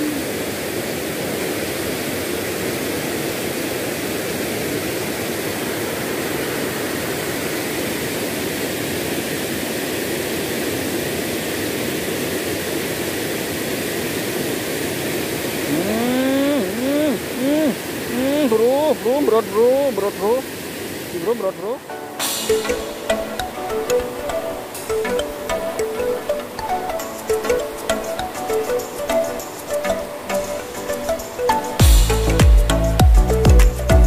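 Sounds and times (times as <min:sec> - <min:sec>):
fast stream: 0:00.0 - 0:34.0
small waterfall rushing: 0:00.0 - 0:34.0.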